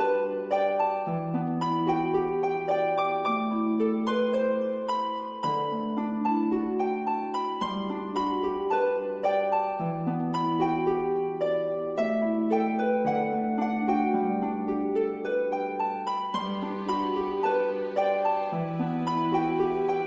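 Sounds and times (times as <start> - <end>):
harp-like plucked string melody: 0.0 - 20.0.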